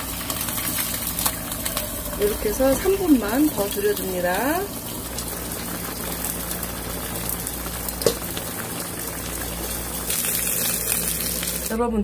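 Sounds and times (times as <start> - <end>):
stew bubbling in a pot: 0.0 - 11.7
low steady hum: 0.0 - 12.0.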